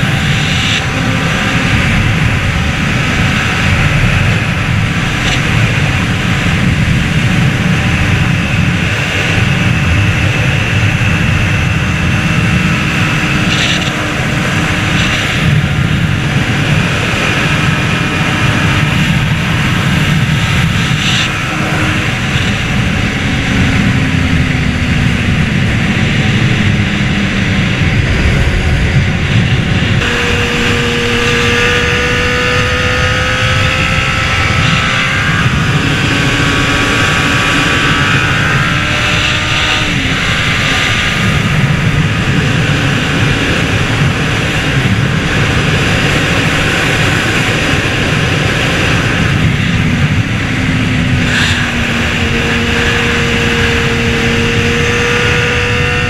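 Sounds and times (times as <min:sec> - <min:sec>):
heavy wind noise: 0:00.0 - 0:56.0
motorcycle engine running: 0:00.0 - 0:56.0.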